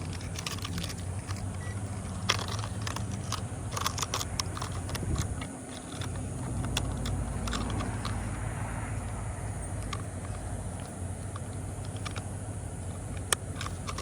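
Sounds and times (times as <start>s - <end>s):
low steady rumble: 0.0s - 14.0s
small clicks and rattles of handling: 0.0s - 14.0s.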